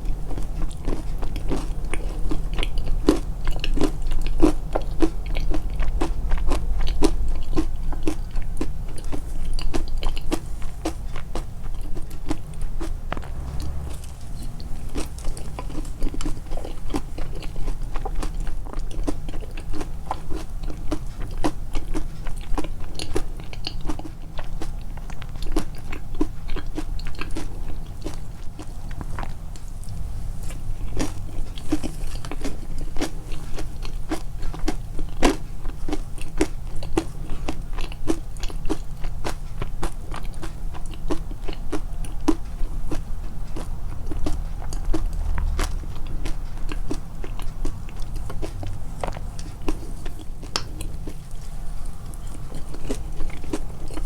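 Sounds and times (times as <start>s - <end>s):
chewing crunchy food: 0.0s - 54.0s
constant low rumble: 0.0s - 54.0s.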